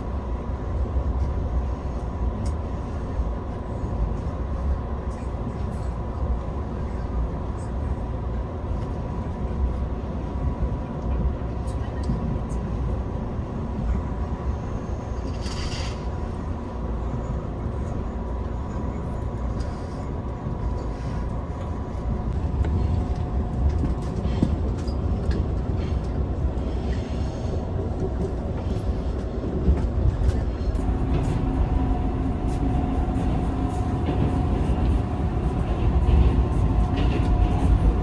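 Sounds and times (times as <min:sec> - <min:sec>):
train rumble with whine: 0:00.0 - 0:38.0.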